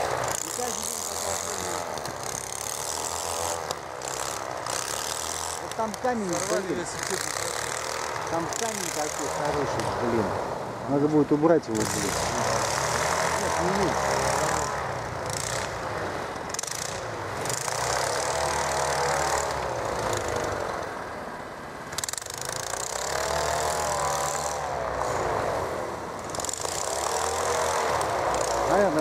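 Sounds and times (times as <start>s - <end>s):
aeroboat propeller engine running: 0.0s - 29.0s.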